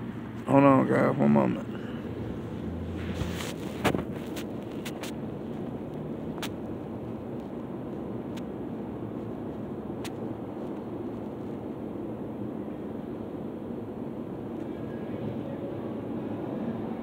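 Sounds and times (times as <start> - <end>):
low background rumble: 0.0 - 16.1.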